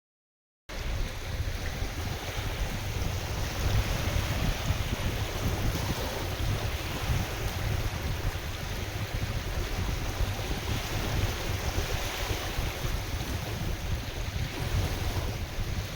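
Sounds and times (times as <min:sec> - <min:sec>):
lake waves washing: 0:00.7 - 0:15.9
wind buffeting microphone: 0:00.7 - 0:15.9.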